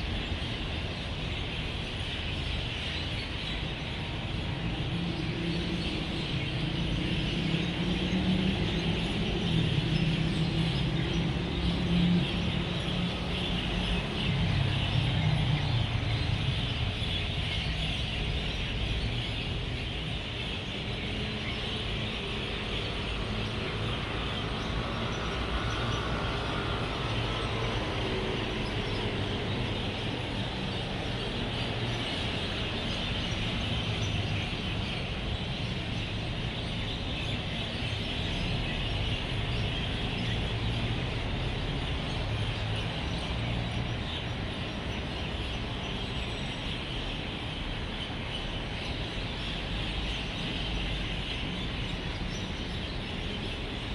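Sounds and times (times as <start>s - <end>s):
flock of birds chirping: 0.0s - 53.9s
road traffic rumble: 0.0s - 53.9s.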